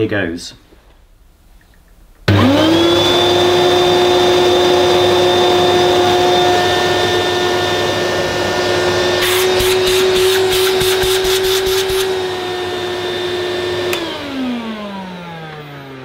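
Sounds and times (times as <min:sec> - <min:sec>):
vacuum cleaner motor whine: 0:02.3 - 0:16.0.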